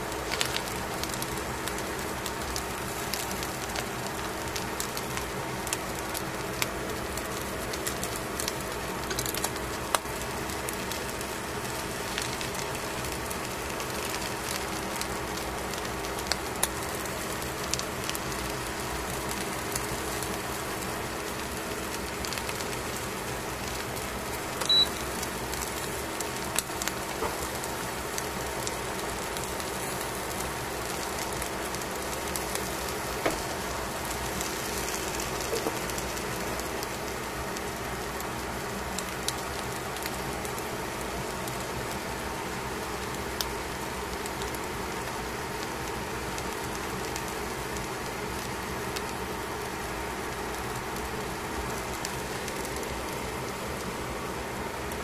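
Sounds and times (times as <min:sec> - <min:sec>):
fish sizzling in a pan: 0:00.1 - 0:55.0.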